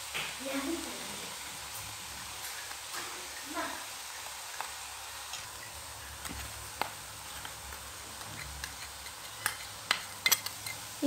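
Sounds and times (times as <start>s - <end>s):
pan of food hissing: 0.0s - 11.0s.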